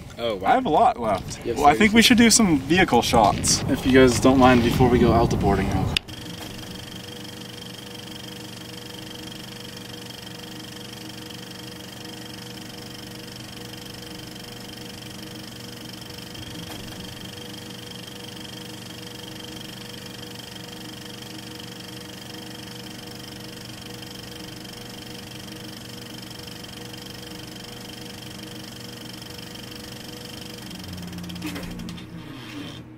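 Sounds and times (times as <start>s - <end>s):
film projector whirring: 0.0s - 32.9s.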